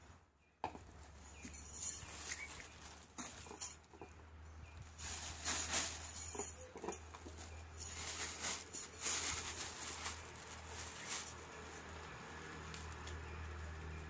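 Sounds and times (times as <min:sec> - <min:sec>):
plastic bag rustling: 0:00.8 - 0:04.1, 0:04.8 - 0:13.9.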